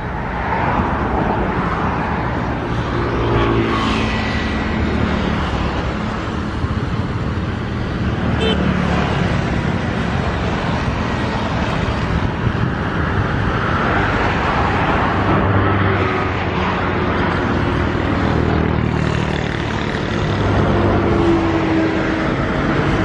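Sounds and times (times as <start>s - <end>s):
noisy wash: 0.0s - 23.0s.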